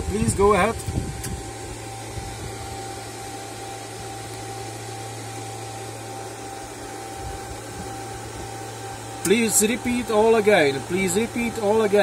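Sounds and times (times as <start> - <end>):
faint constant high tone: 0.0 - 12.0
low electrical hum: 0.0 - 12.0.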